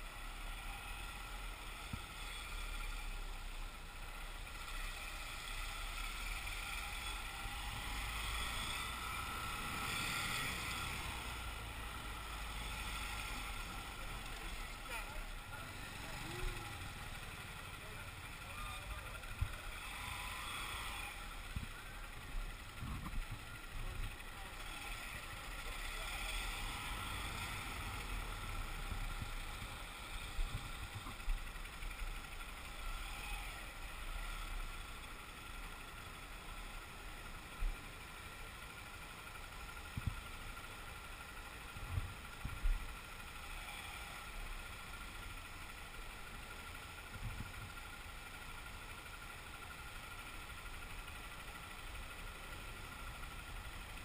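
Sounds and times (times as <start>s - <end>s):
motorcycle engine and road hum: 0.0s - 54.0s.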